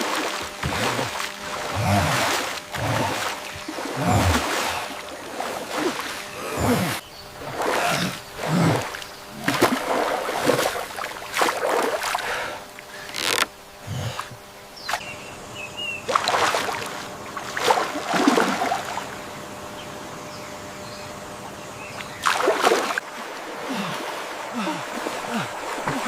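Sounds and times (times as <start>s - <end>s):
water splashing and sloshing: 0.0s - 15.1s, 16.0s - 19.4s, 22.0s - 26.0s.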